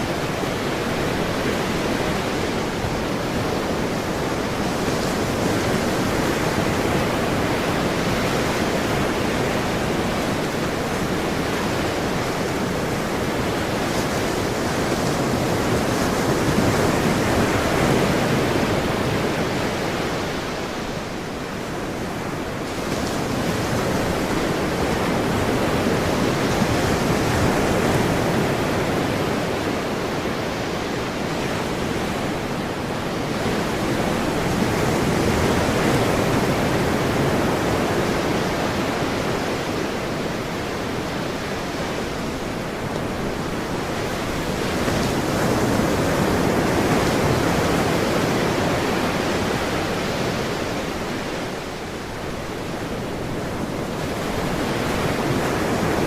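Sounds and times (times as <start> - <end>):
ocean surf washing: 0.0 - 56.0.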